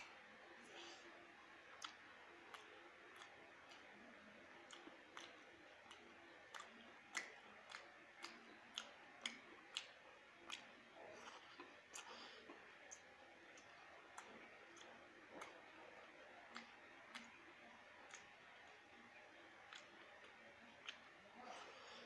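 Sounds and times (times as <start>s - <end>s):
mouth clicks and lip smacks: 0.0s - 22.0s.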